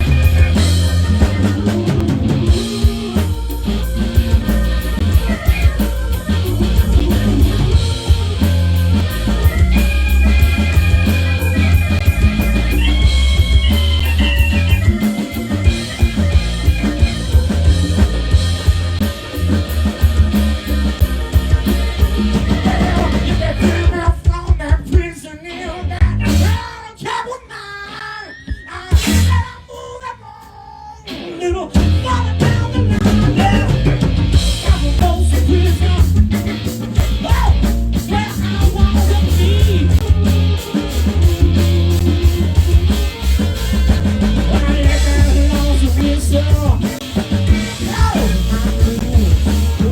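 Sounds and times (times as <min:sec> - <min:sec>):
live rock band playing: 0:00.0 - 0:27.0, 0:27.9 - 0:29.6, 0:31.0 - 0:49.9.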